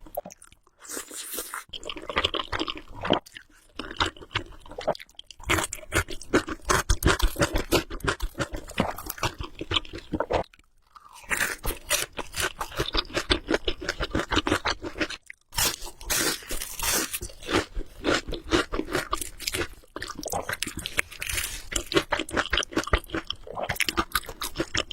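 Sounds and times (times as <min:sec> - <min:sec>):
chewing with wet crunching: 0:00.0 - 0:24.9.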